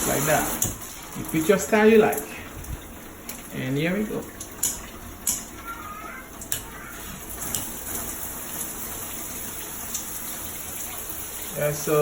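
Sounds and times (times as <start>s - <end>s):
shower head spraying water: 0.0s - 12.0s.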